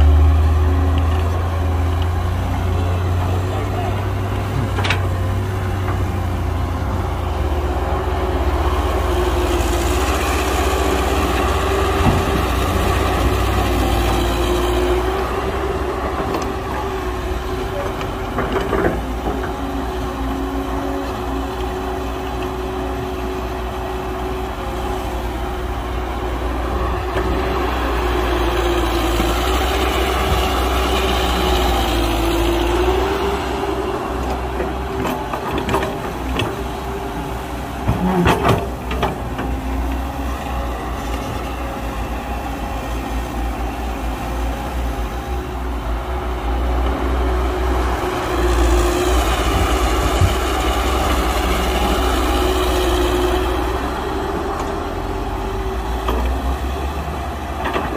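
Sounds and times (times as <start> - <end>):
heavy diesel engine rumbling: 0.0 - 57.9.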